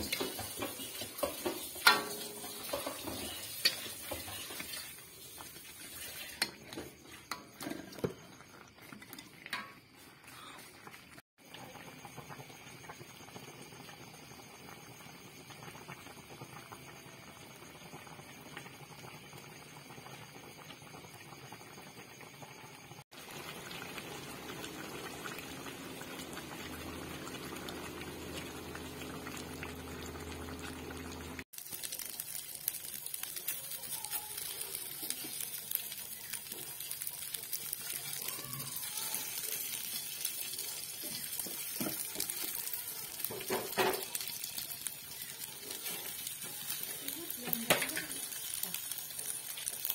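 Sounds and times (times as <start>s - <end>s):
chicken sizzling in a frying pan: 0.0s - 8.7s, 9.3s - 49.9s
sauce bubbling in a wok: 0.0s - 49.9s.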